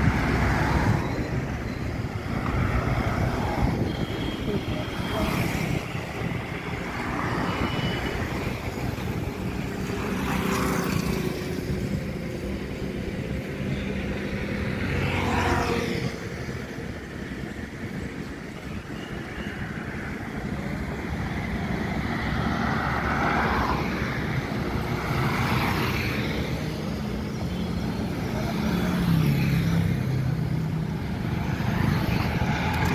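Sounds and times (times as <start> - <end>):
motorcycles and scooters passing: 0.0 - 17.5, 20.1 - 32.9.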